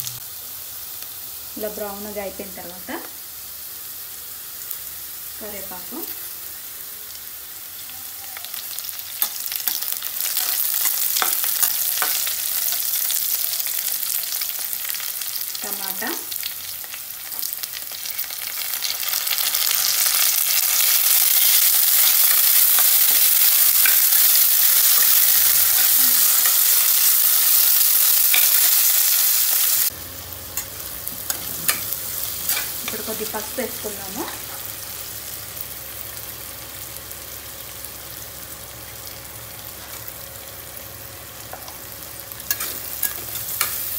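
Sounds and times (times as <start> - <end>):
vegetables sizzling in hot oil: 0.0 - 43.9.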